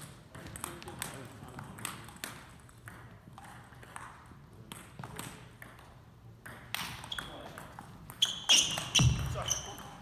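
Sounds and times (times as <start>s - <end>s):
table tennis ball clicking: 0.3s - 9.1s.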